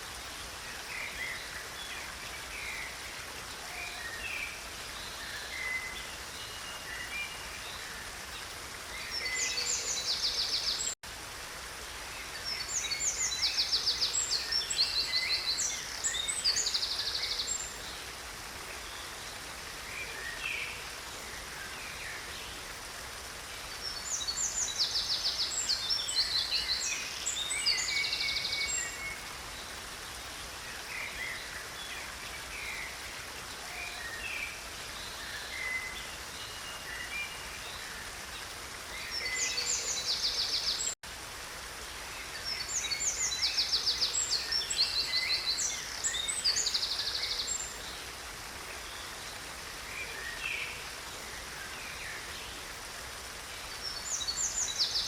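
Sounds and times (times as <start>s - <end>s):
water rushing in a creek: 0.0s - 55.0s.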